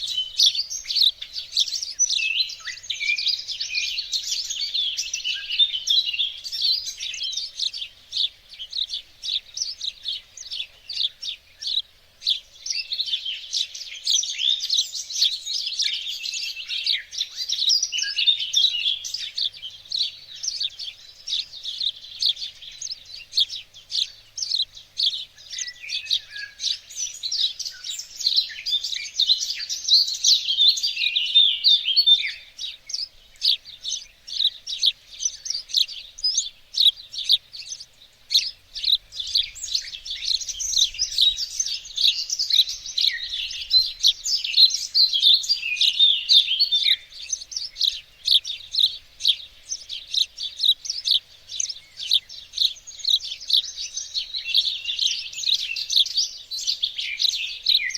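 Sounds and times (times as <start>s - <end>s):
songbirds chirping: 0.0s - 57.9s.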